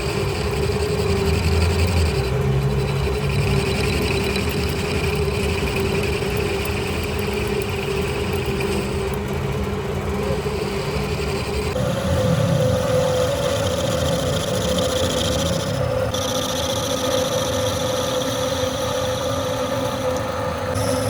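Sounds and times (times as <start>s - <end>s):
machining noise: 0.0s - 21.0s
metal lathe motor hum: 0.0s - 21.0s.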